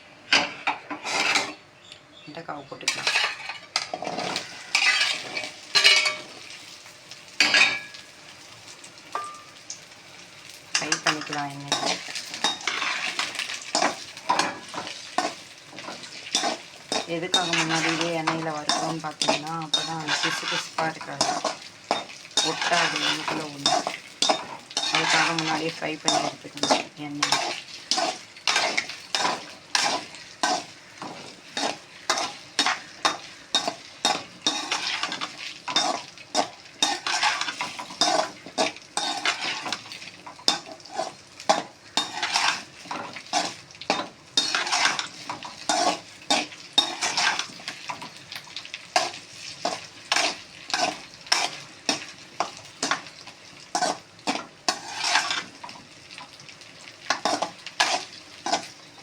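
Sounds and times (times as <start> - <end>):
food sizzling in oil: 0.0 - 1.8, 2.6 - 59.0
spatula scraping pan: 0.4 - 1.6, 2.9 - 6.6, 10.8 - 55.8, 57.1 - 59.0.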